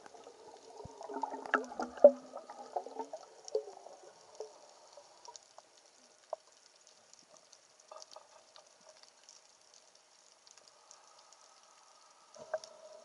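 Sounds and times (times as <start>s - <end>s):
small underwater clicks: 0.0s - 13.0s
underwater crackling: 0.0s - 13.0s.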